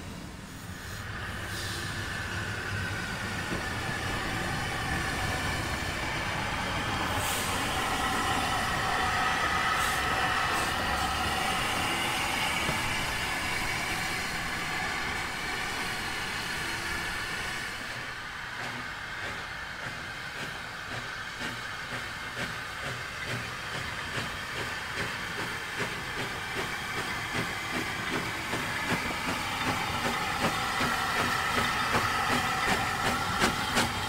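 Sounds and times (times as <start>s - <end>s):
steam locomotive passing: 0.0s - 34.0s.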